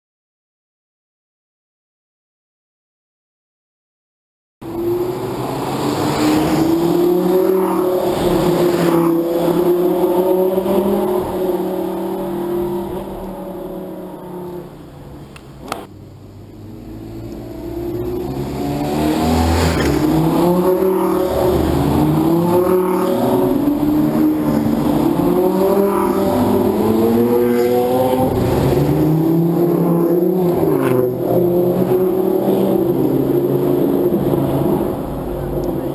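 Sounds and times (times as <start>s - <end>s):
sports car engines revving: 4.6s - 35.9s.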